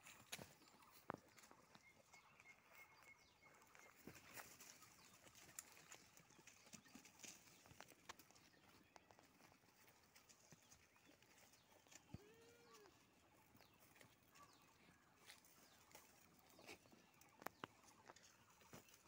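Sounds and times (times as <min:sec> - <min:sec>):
faint clicks and rustles: 0:03.5 - 0:19.0.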